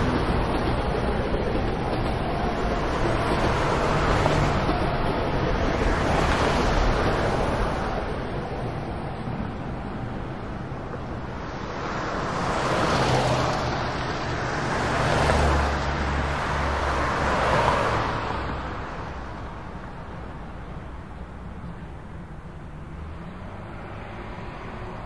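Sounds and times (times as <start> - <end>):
bus engine drone: 0.0 - 25.0
road traffic passing: 0.0 - 25.0.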